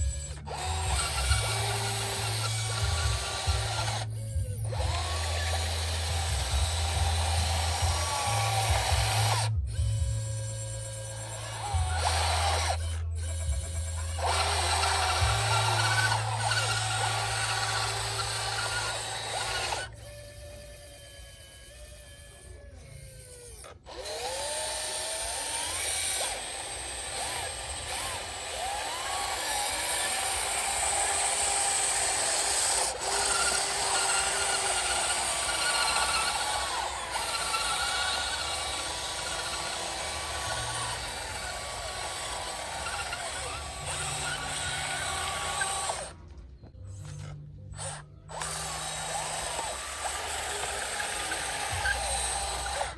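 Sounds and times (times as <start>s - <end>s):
small electric motors whining: 0.0s - 52.9s.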